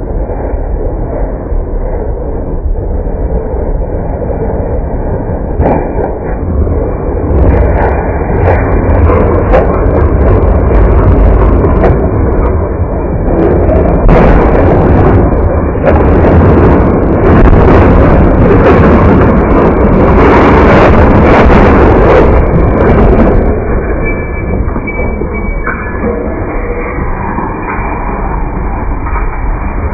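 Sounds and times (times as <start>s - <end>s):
heavy truck rumbling and scraping: 0.0s - 29.9s.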